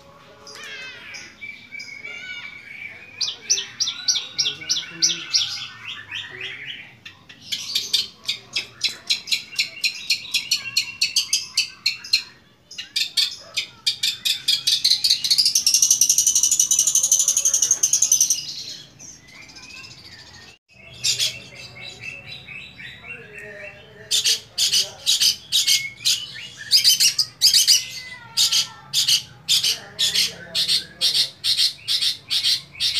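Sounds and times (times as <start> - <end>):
bird singing with trills: 0.5 - 32.9.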